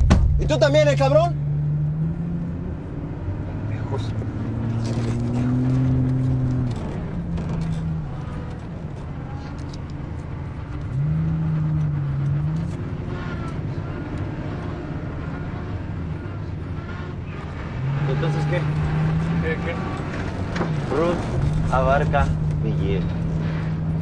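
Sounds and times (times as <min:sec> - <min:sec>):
car engine running: 0:00.0 - 0:24.0
road noise: 0:00.0 - 0:24.0.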